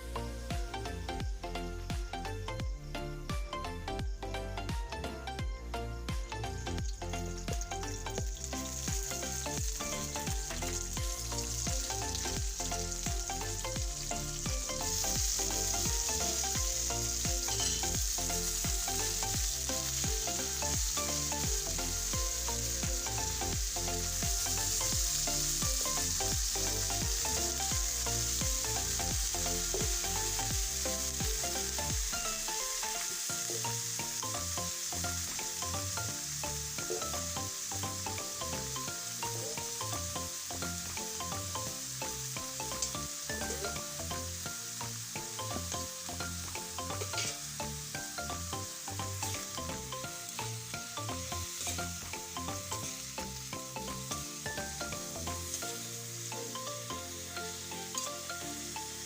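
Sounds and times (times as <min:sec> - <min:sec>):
background music with steady beat: 0:00.0 - 0:59.0
food sizzling in oil: 0:06.2 - 0:59.0.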